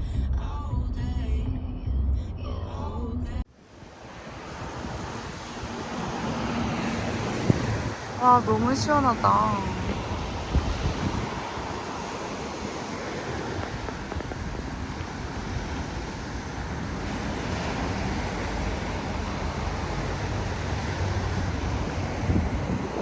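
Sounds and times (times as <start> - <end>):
wind buffeting microphone: 3.6 - 23.0.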